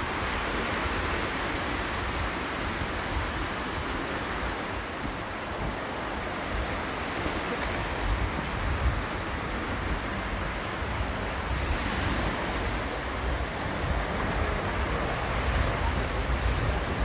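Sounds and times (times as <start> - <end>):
small waves breaking on shore: 0.0 - 17.0
wind rumble on microphone: 0.0 - 17.0.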